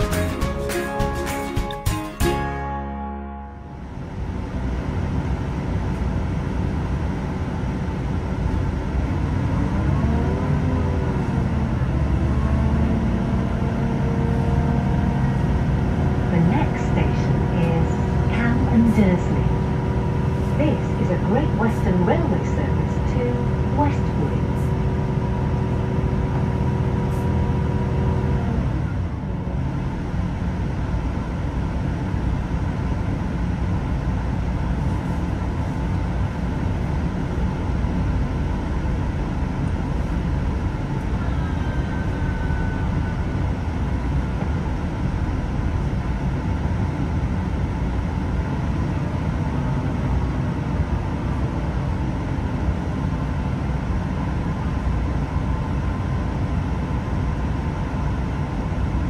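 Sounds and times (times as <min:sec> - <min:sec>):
steady humming tone: 0:00.0 - 0:59.0
train engine and wheels rumbling: 0:00.0 - 0:59.0.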